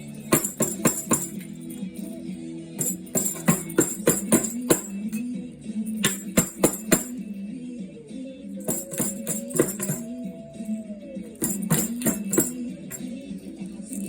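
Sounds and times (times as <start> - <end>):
tambourine jingling: 0.0 - 7.5, 8.6 - 14.0.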